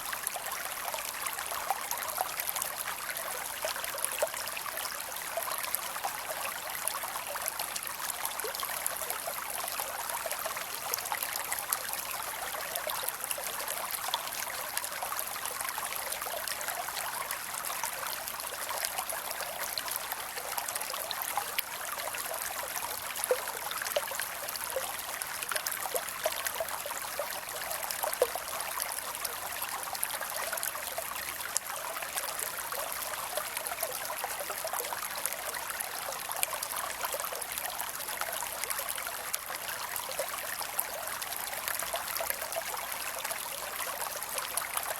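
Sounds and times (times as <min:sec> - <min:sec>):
creek water trickling: 0:00.0 - 0:44.9.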